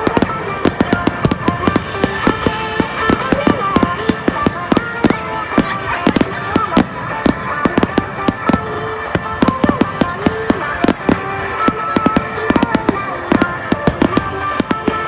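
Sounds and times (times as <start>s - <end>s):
fireworks bangs and crackles: 0.0s - 15.0s
music with held tones: 0.0s - 15.0s.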